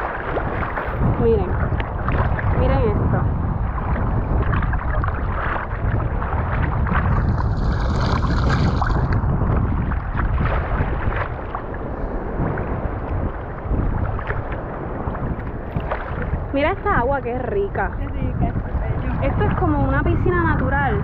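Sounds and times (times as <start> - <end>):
seawater sloshing around wading legs: 0.0 - 21.0
wind rumbling on microphone: 0.0 - 21.0.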